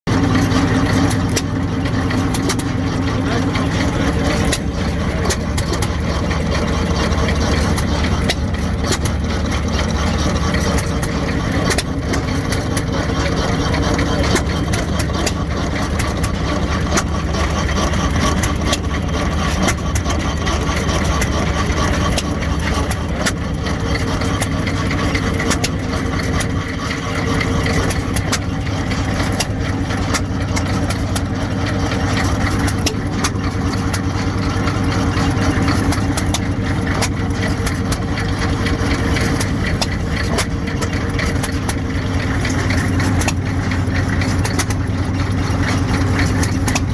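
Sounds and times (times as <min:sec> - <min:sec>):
hit-and-miss engine running: 0:00.1 - 0:46.9.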